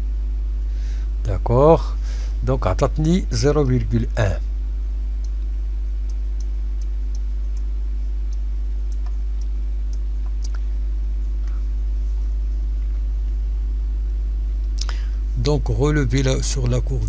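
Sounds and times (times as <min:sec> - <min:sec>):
mains hum: 0:00.0 - 0:17.0.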